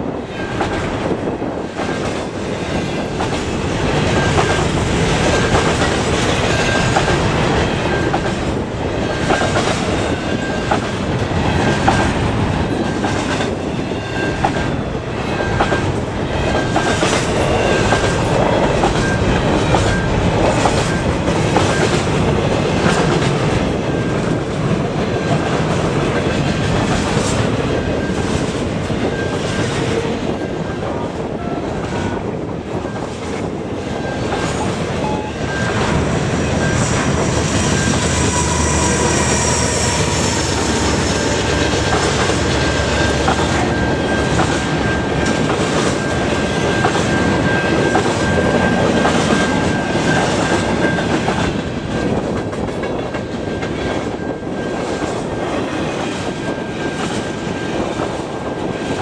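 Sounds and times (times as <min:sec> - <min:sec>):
freight train rumble: 0:00.0 - 0:59.0
train wheels clacking on rail joints: 0:00.0 - 0:59.0.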